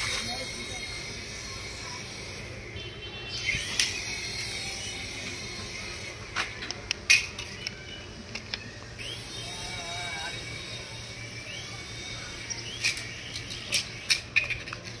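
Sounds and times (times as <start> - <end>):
toy helicopter motor whine: 0.0 - 2.8, 3.4 - 15.0.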